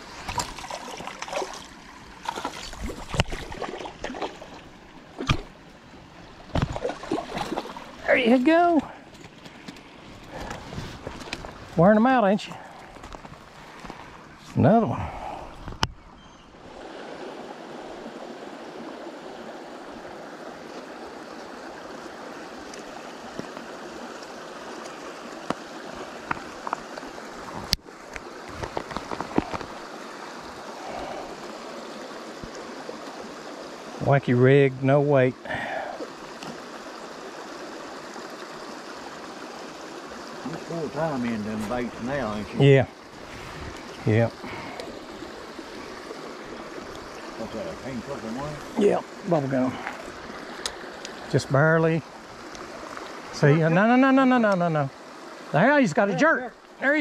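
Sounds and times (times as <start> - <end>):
stream water splashing and gurgling: 0.0 - 57.0.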